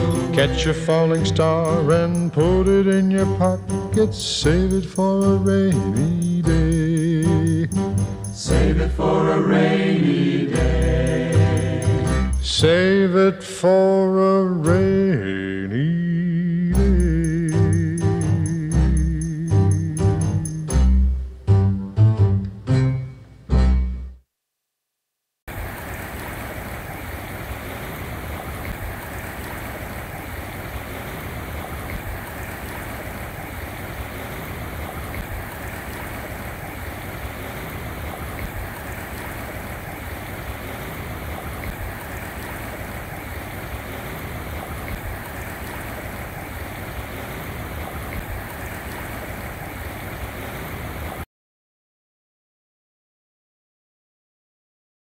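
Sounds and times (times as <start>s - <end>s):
stream water rushing: 0.0s - 21.5s, 25.5s - 51.3s.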